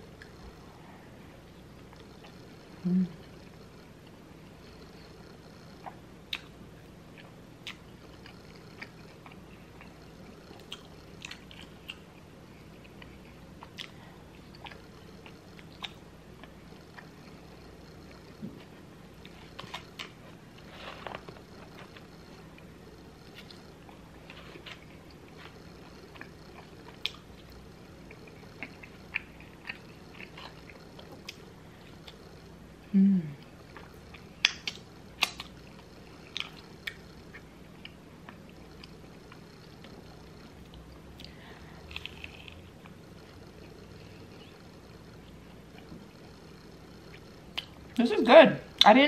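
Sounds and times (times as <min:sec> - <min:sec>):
faint steady hum: 0:00.0 - 0:49.0
person chewing food: 0:05.3 - 0:32.6, 0:33.4 - 0:47.9.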